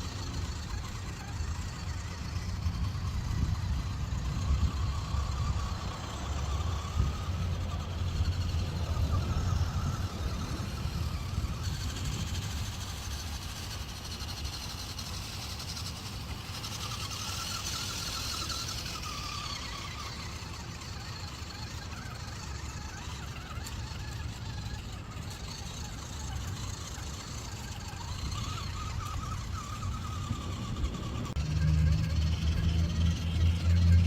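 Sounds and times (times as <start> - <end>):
toy truck motor whining: 0.0 - 34.0.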